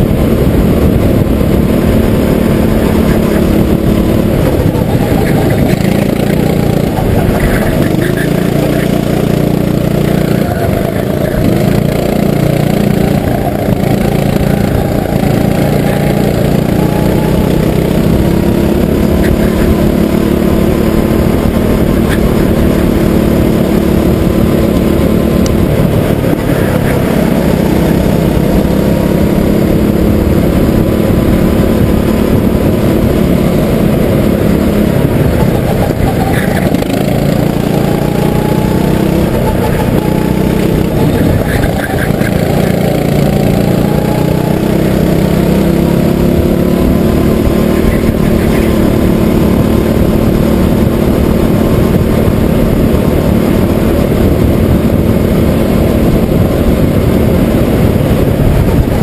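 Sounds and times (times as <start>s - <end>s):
racing kart engine revving: 0.0s - 59.0s.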